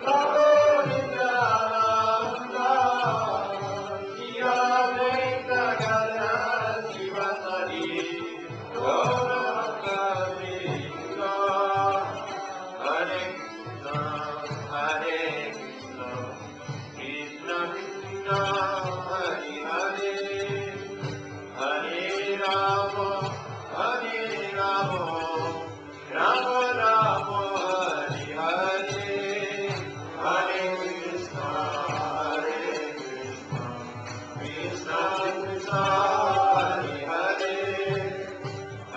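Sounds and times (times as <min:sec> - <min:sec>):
voices chanting prayers: 0:00.0 - 0:38.9.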